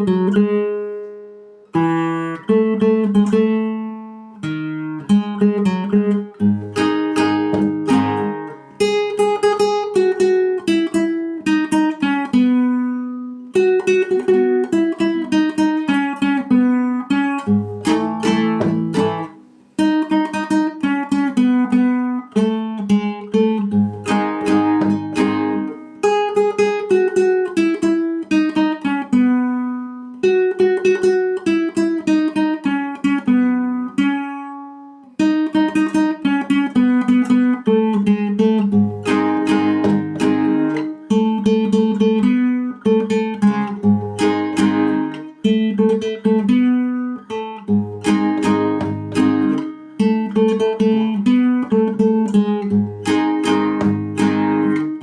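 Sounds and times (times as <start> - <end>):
acoustic guitar picking: 0.0 - 55.0.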